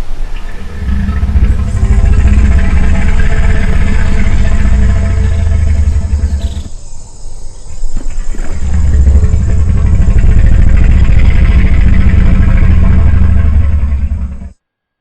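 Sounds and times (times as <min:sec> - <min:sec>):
deep rumbling creature growl: 0:00.2 - 0:14.6.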